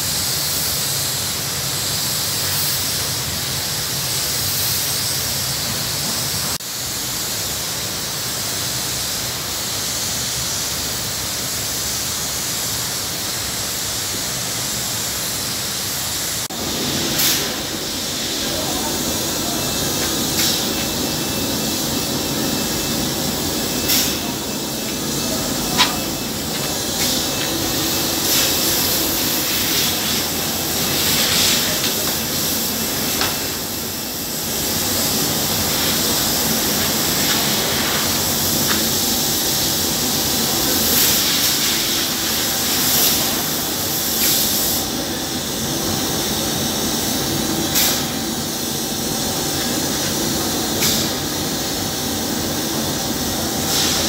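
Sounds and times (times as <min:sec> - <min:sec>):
spray gun hissing: 0:00.1 - 0:54.0.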